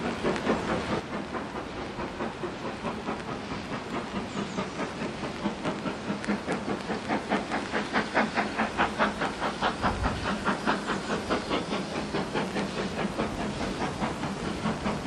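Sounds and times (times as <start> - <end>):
steady steam hiss: 0.0 - 15.0
steam locomotive exhaust chuffing: 0.0 - 15.0.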